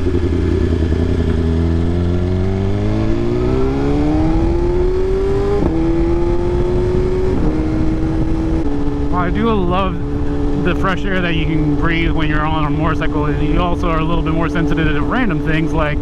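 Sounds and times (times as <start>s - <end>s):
motorcycle engine revving up: 0.0s - 16.0s.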